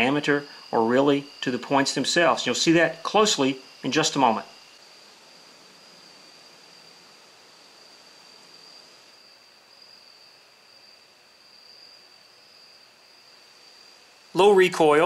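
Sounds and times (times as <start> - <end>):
faint steady hiss: 0.0 - 15.0
thin high-pitched whine: 0.0 - 15.0.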